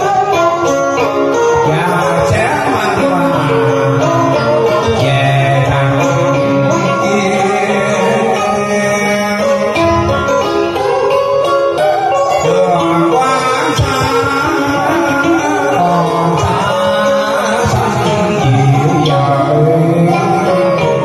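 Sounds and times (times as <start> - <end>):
karaoke backing music: 0.0 - 21.0
man singing into a microphone: 0.0 - 21.0
plucked string instrument: 0.0 - 21.0.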